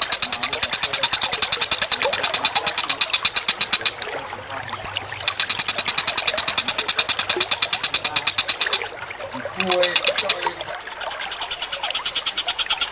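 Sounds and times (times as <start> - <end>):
songbird chattering: 0.0 - 4.0, 5.2 - 8.9, 9.5 - 12.9.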